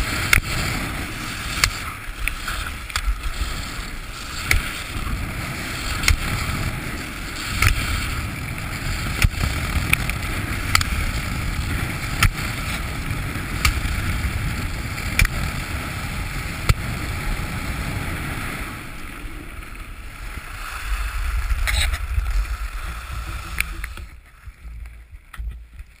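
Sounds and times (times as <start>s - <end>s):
skis carving on snow: 0.0s - 26.0s
wind on microphone: 0.0s - 26.0s.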